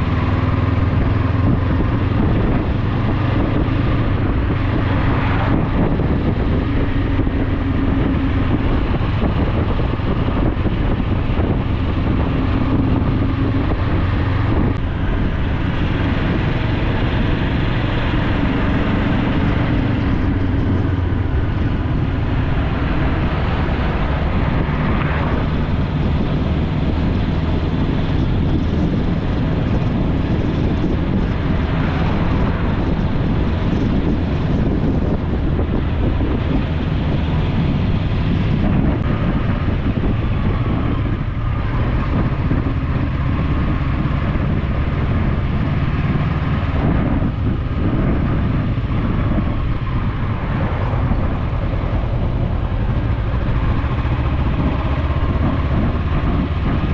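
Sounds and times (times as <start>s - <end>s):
motorcycle engine running: 0.0s - 56.9s
wind rushing over microphone: 0.0s - 56.9s.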